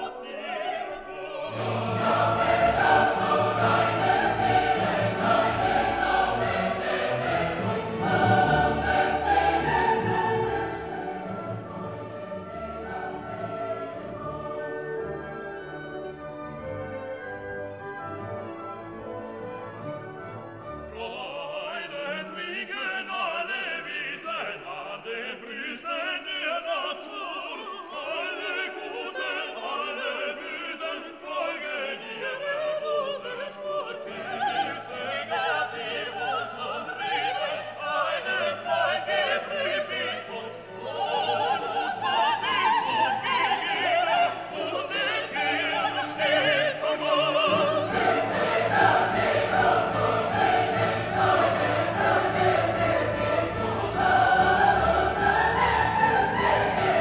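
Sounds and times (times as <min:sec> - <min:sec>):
operatic singing with orchestra: 0:00.0 - 0:57.0.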